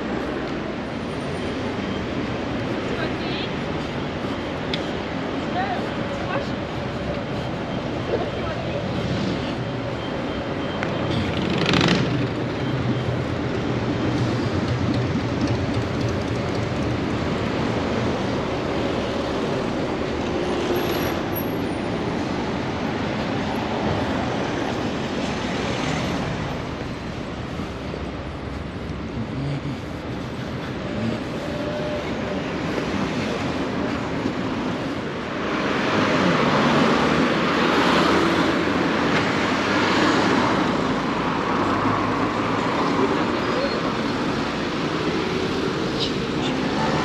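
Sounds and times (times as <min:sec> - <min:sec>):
traffic rumble: 0:00.0 - 0:47.0.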